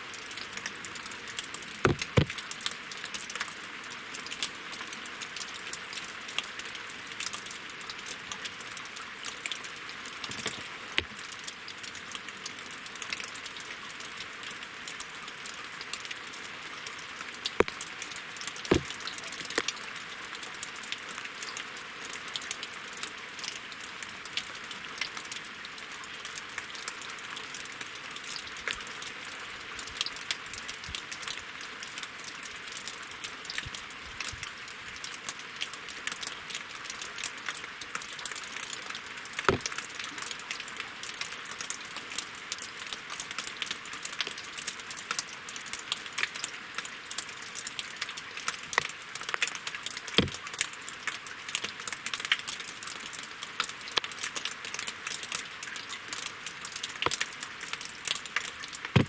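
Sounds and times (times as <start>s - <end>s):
rain falling on a lake: 0.0s - 59.0s
loud water drip: 0.1s - 59.0s.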